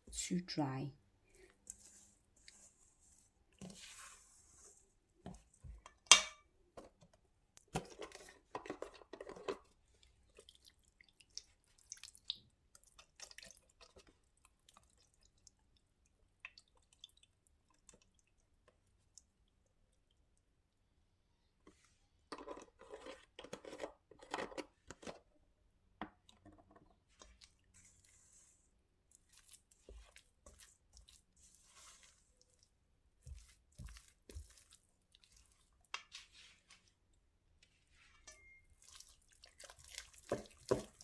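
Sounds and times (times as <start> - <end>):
stirring batter in a bowl: 1.2 - 21.0, 21.6 - 41.0.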